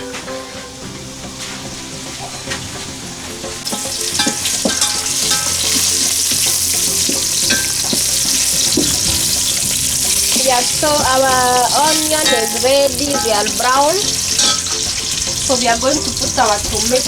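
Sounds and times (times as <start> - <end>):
onions frying in oil: 0.0 - 17.0.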